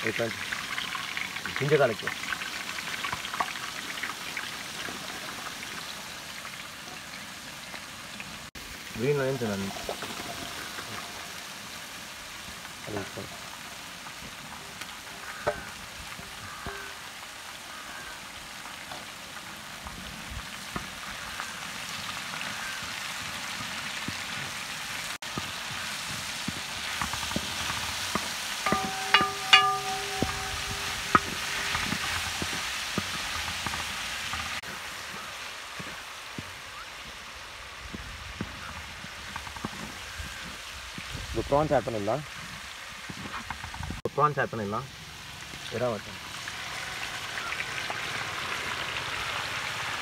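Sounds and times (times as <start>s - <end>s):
food sizzling in oil: 0.0s - 43.4s, 44.8s - 50.0s.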